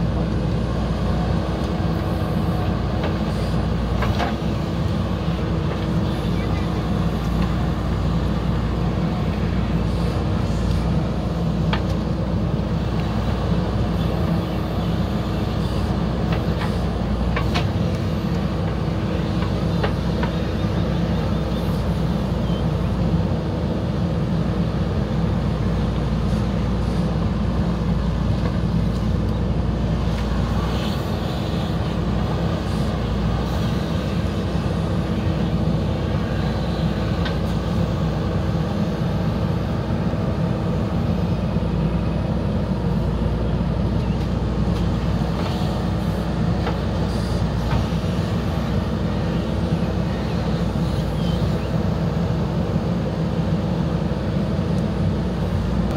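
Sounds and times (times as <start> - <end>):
diesel backhoe engine running: 0.0 - 55.9.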